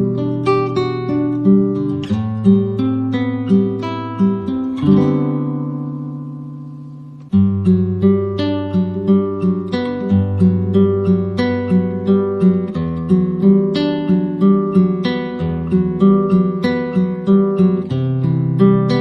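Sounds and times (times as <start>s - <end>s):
acoustic guitar plucking: 0.0s - 19.0s.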